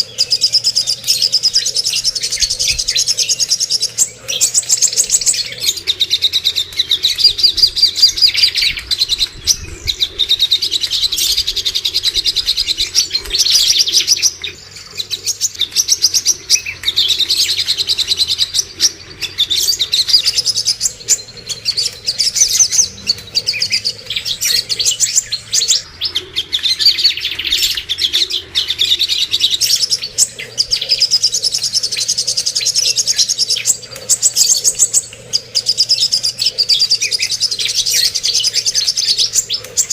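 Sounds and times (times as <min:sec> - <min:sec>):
songbird chattering chirps: 0:00.0 - 0:39.9.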